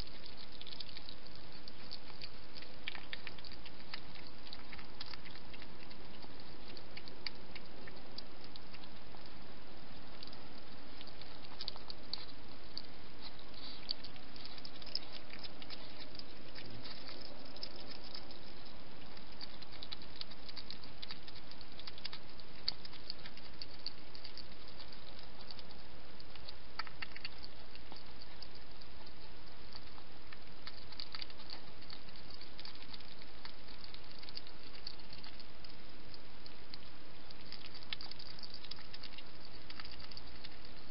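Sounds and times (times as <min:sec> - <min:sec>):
hedgehog chewing: 0:00.0 - 0:40.9.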